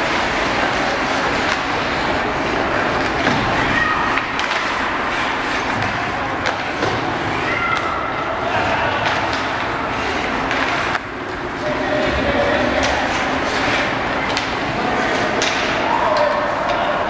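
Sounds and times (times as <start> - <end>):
skates scraping on ice: 0.0 - 7.5, 8.1 - 15.8
hockey sticks and puck clacking: 0.0 - 17.0.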